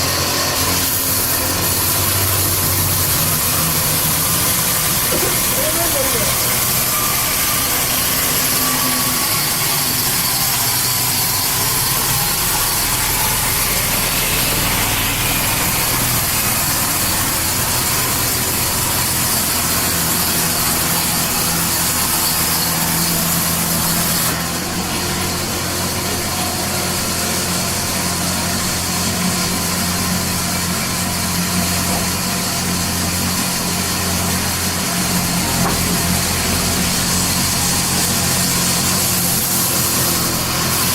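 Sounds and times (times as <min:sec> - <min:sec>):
power saw running: 0:00.0 - 0:40.9.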